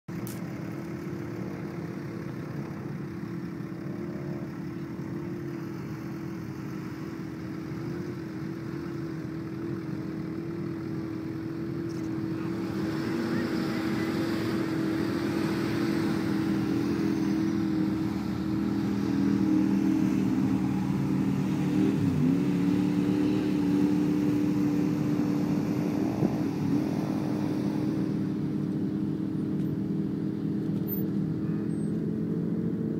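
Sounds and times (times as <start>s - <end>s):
truck engines at high revs: 0.1s - 32.9s.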